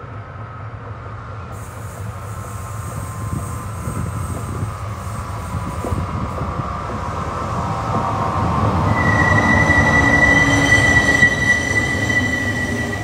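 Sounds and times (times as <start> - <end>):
diesel locomotive engine: 0.0 - 13.0.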